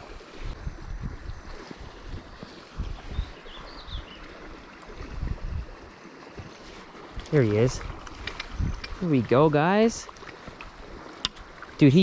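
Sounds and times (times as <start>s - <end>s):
wind rumble on microphone: 0.0s - 11.7s
creek water rushing: 0.0s - 12.0s.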